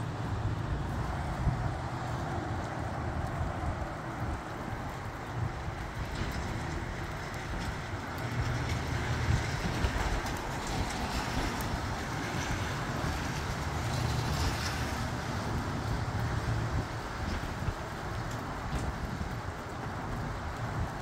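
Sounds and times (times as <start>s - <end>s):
gusty wind buffeting microphone: 0.0s - 21.0s
rain falling: 0.0s - 21.0s.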